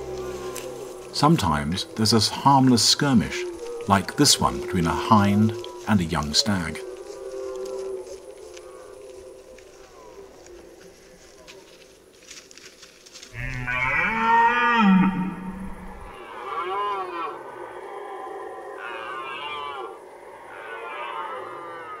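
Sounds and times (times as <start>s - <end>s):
deer stag roaring: 0.0s - 9.1s, 13.4s - 22.0s.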